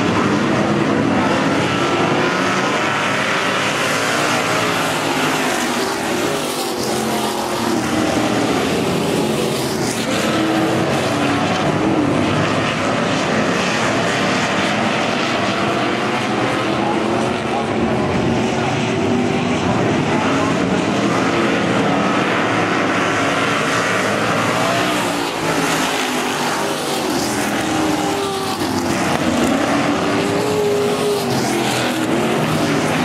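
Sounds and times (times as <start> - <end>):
racing car engines: 0.0 - 33.0.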